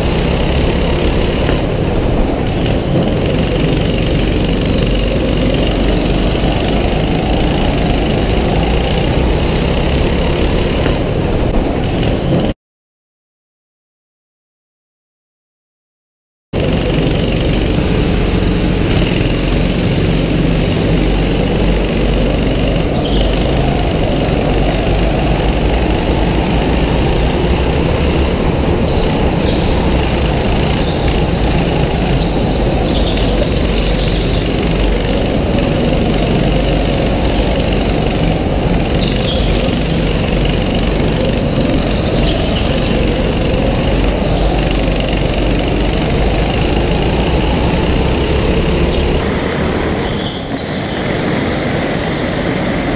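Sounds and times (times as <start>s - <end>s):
go-kart engine running hard: 0.0s - 12.6s, 16.6s - 52.9s.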